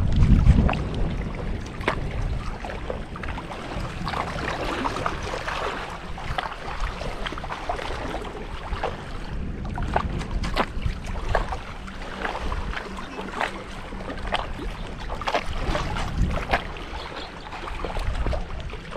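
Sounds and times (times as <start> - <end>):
lake water lapping and splashing: 0.0 - 18.9
wind buffeting microphone: 0.0 - 18.9.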